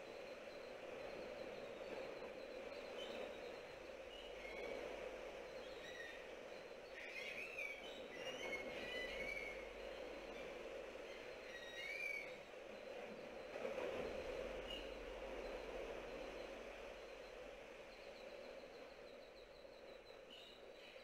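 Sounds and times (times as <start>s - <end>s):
faint rushing sea noise: 0.0s - 21.0s.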